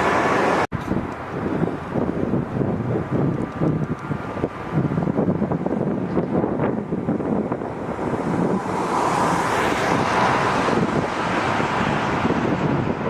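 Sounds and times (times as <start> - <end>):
jet airliner passing: 0.0 - 13.0
wind buffeting microphone: 0.0 - 13.0.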